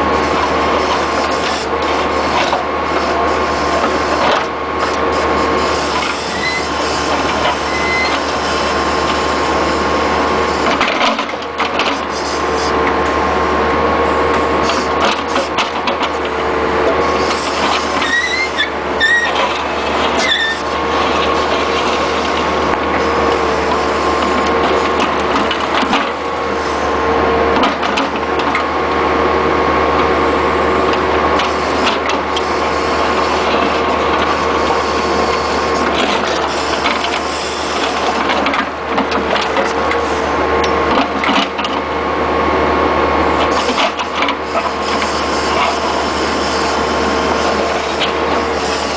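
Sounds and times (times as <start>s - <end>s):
loader engine running with whine: 0.0s - 48.9s.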